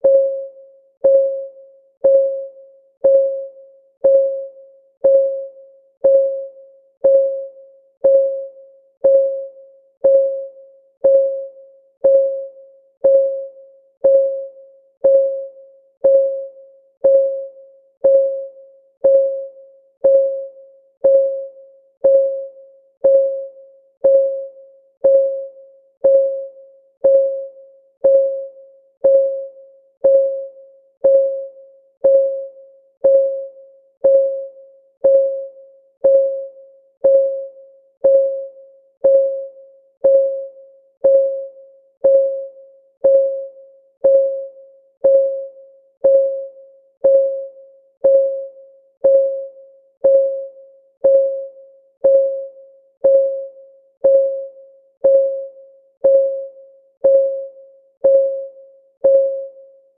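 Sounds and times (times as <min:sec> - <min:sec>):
timer clock ticking: 0:00.0 - 0:59.6.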